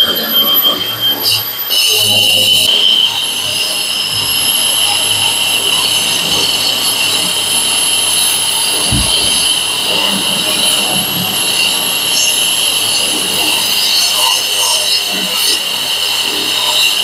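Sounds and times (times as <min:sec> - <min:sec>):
wall chaser motor whine: 0:00.0 - 0:17.0.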